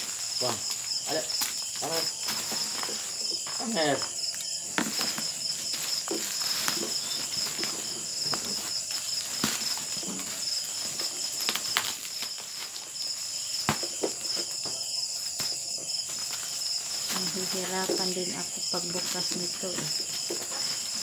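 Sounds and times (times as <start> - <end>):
bubble wrap crinkling: 0.0 - 21.0
insects chirping: 0.0 - 21.0.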